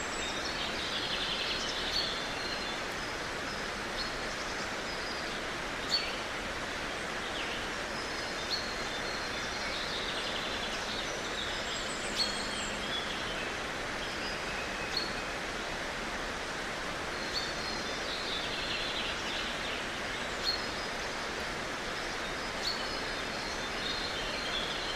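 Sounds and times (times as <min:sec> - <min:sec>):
steady outdoor hiss: 0:00.0 - 0:24.9.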